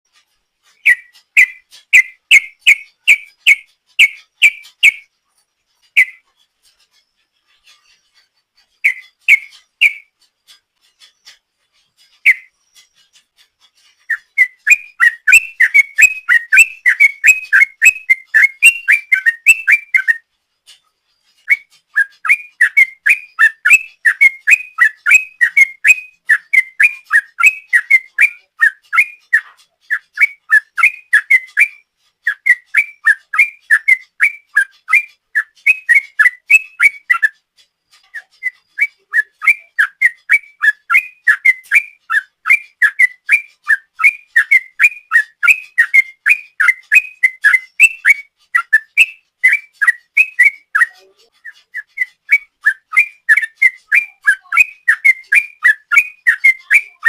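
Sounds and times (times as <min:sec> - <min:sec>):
bird singing whistled notes: 0:00.1 - 0:57.0.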